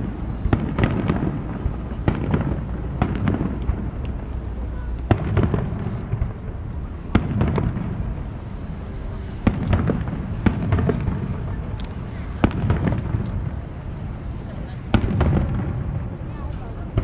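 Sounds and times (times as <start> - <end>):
firework shells booming: 0.0 - 8.3, 9.4 - 11.6, 12.4 - 13.7, 14.8 - 17.0.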